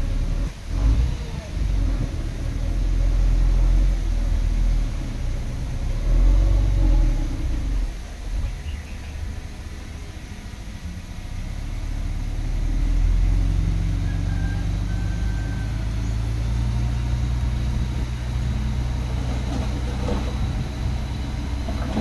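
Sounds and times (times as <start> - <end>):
heavy diesel engine drone: 0.0 - 22.0.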